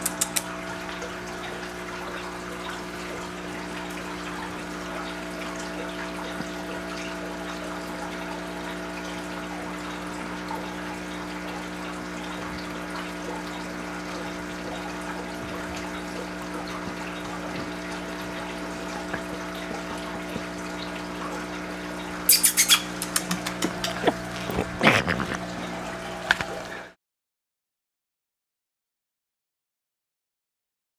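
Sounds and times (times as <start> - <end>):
water trickling: 0.0 - 26.8
aquarium filter pump humming: 0.0 - 27.0.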